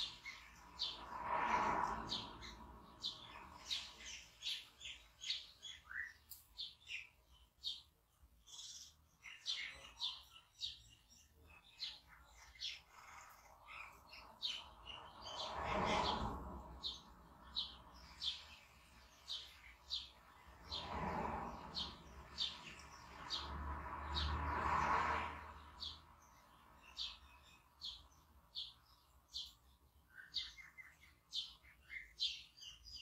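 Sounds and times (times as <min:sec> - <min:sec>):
small bird chirping: 0:00.0 - 0:01.3, 0:01.9 - 0:24.3, 0:25.2 - 0:33.0.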